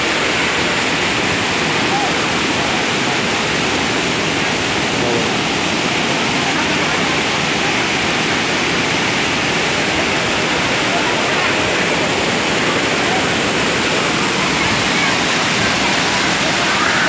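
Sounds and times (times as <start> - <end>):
waterfall rushing over rocks: 0.0 - 17.0.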